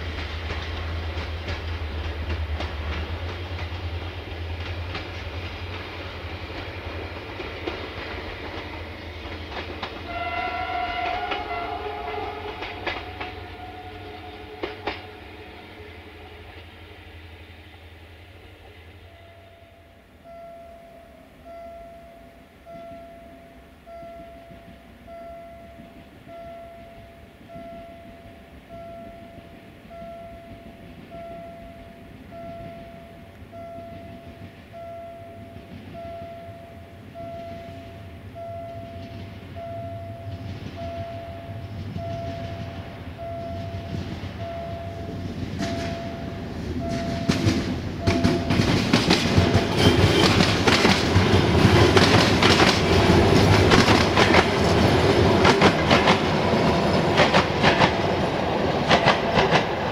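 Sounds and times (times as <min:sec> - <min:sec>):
train wheels clattering on rails: 0:00.0 - 0:16.8, 0:24.0 - 0:59.9
passenger train approaching: 0:00.0 - 0:59.9
level crossing warning bell: 0:06.8 - 0:16.6, 0:19.0 - 0:59.9.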